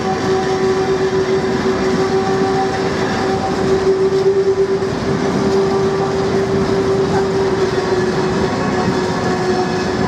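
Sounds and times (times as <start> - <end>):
freight wagons rumbling and rattling: 0.0 - 10.0
steady high squeal: 0.0 - 10.0.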